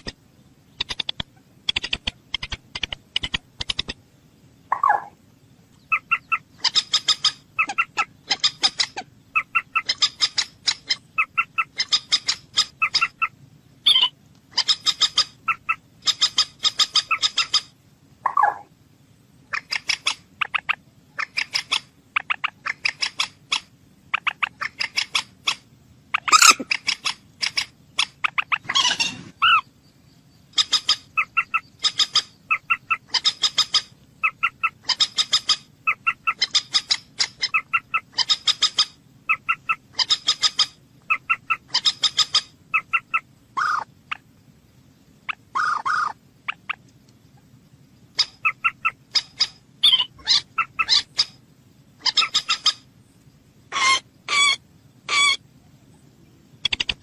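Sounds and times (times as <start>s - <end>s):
moorhen calling: 4.6s - 18.7s, 19.4s - 44.3s, 45.2s - 52.9s, 53.6s - 57.0s.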